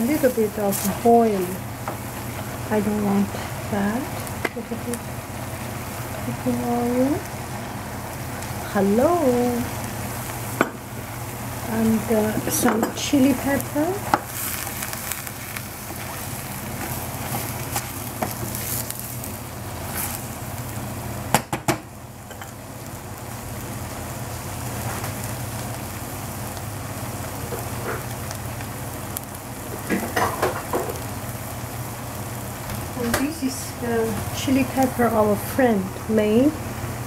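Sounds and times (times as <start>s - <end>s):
vegetables sizzling in a pan: 0.0s - 37.0s.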